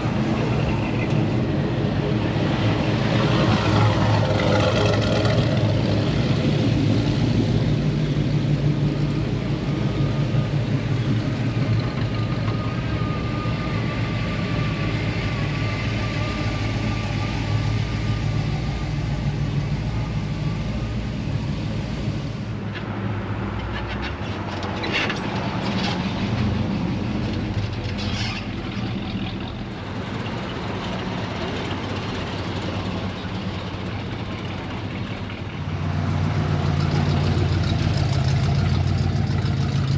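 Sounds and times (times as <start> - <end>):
truck engines humming: 0.0 - 39.9.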